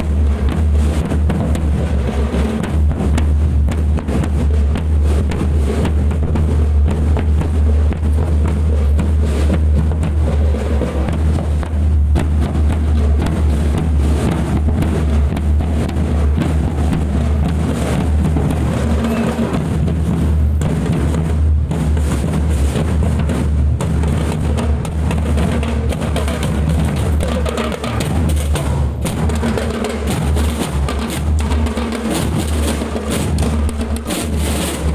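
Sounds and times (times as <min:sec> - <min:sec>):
marching drum band: 0:00.0 - 0:34.9.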